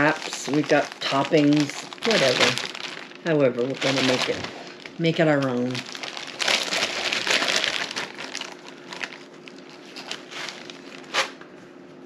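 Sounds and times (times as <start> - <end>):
packaging crinkling and rustling: 0.0 - 11.4.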